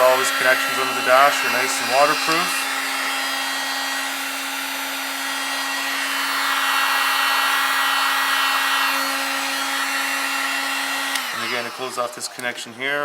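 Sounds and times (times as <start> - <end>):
heat gun blowing: 0.0 - 13.0.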